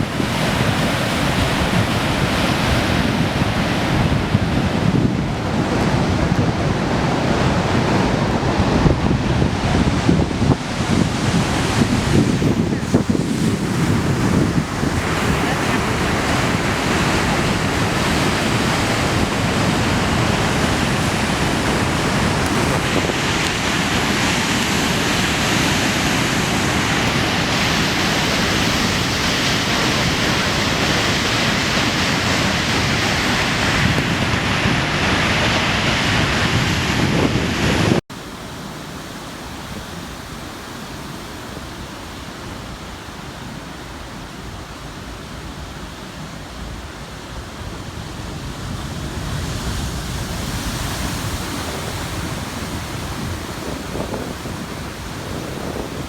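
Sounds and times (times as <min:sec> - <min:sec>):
wind buffeting microphone: 0:00.0 - 0:38.6, 0:41.7 - 0:56.0
surf breaking on rocky shore: 0:00.0 - 0:56.0.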